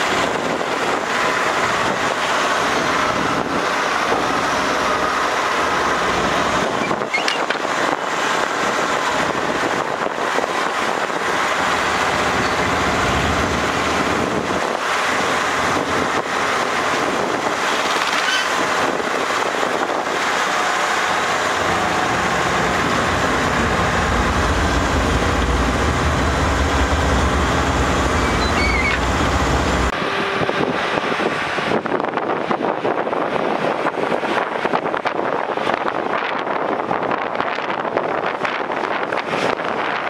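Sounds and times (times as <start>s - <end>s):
heavy machinery engines running: 0.0s - 35.1s
deep engine rumble: 0.0s - 37.2s
wind buffeting microphone: 0.0s - 40.0s.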